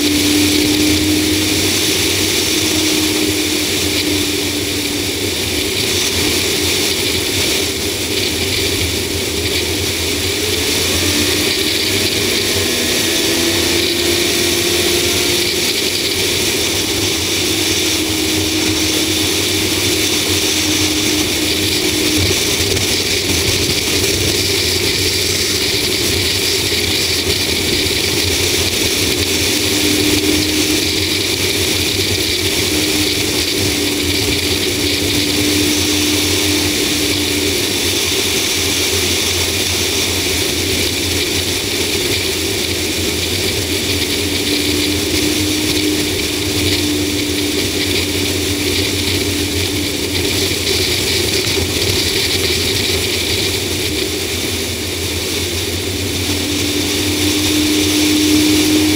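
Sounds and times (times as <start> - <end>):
low engine hum: 0.0 - 58.9
wind and road noise: 0.0 - 58.9.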